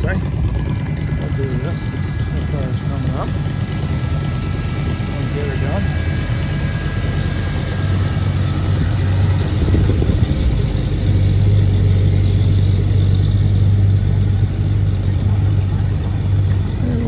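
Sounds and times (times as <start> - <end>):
car engines passing slowly: 0.0 - 17.0.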